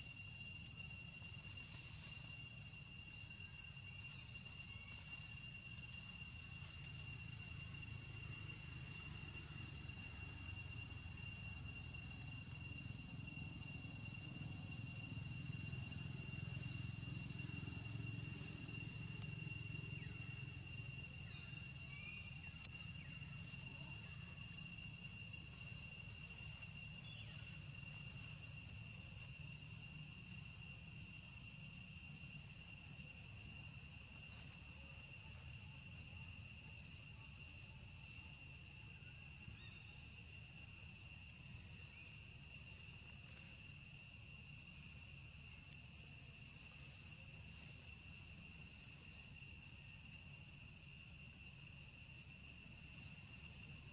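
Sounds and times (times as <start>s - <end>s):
insects droning: 0.0s - 53.9s.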